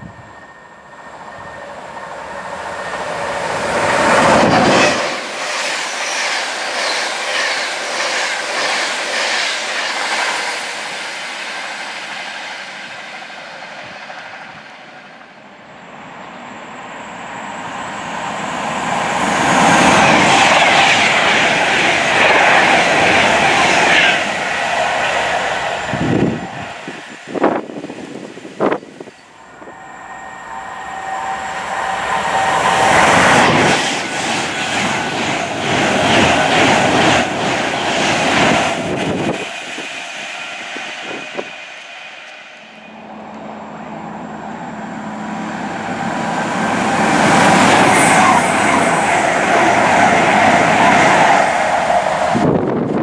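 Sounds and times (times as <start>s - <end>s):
trains passing at speed: 0.0s - 53.0s.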